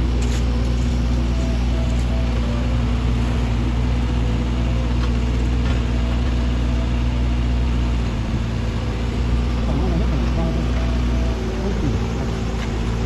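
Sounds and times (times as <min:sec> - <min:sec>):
diesel excavator engine running: 0:00.0 - 0:13.0.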